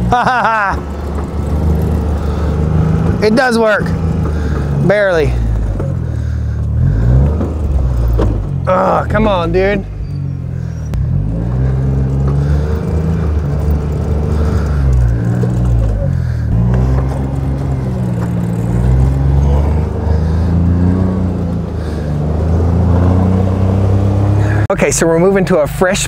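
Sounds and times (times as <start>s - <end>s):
utility vehicle engine revving: 0.0s - 24.7s.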